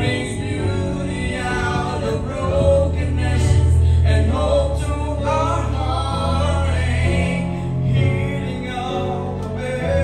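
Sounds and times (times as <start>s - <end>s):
accompaniment track bass notes: 0.0s - 10.0s
man singing gospel song: 0.0s - 10.0s.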